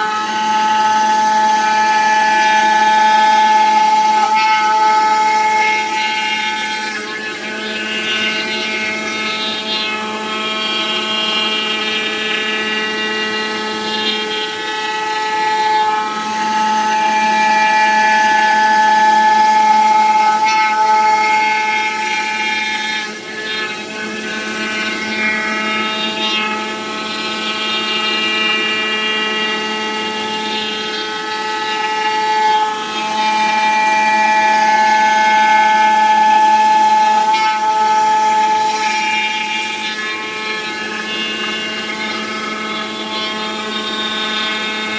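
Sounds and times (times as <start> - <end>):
foam cutting machine whine: 0.0 - 44.9.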